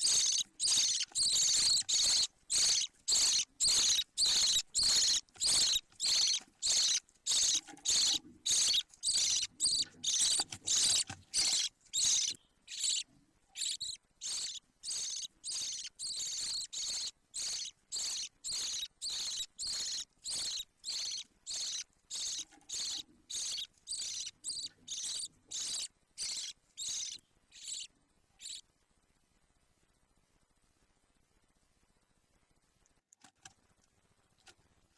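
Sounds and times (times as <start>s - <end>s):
bird chick cheeping: 0.0s - 28.6s.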